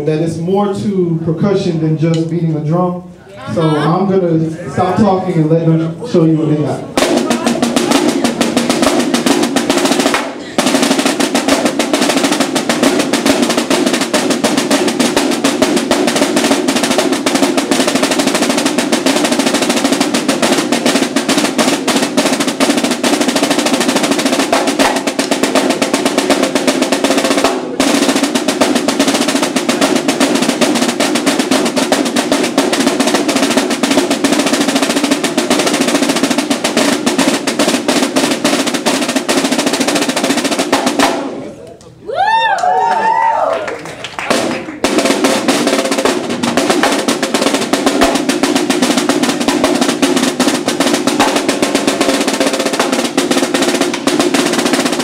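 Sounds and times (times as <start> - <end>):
snare drum rolls: 6.9 - 41.5, 42.2 - 55.0.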